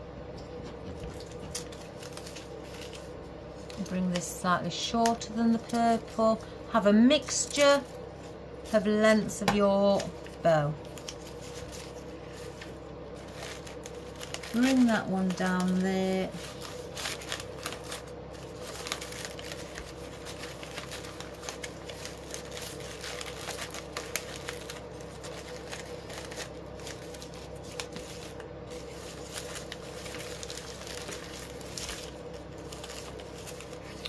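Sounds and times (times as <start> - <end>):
plastic ribbon crinkling: 1.3 - 6.4, 9.9 - 34.0.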